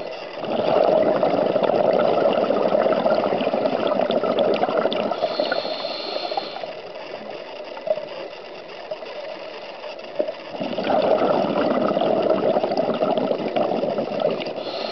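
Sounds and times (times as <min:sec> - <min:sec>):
underwater exhaled bubbles gurgling: 0:00.0 - 0:14.9
underwater noise: 0:00.0 - 0:14.9.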